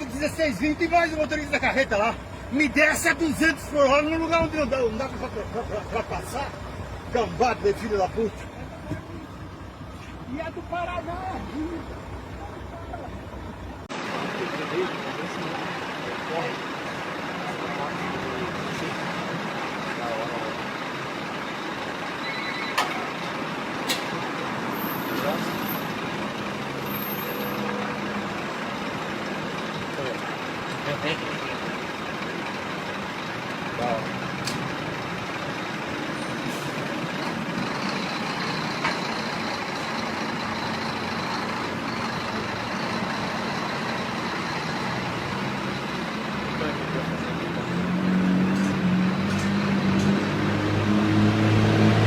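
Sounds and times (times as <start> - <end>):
truck road and engine noise: 0.0 - 52.0.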